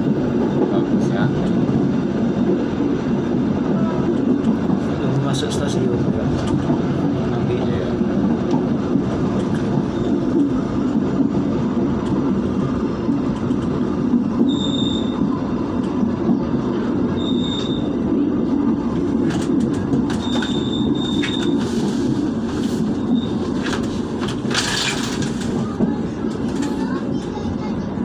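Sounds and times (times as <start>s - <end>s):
train carriage rumbling on track: 0.0s - 28.0s.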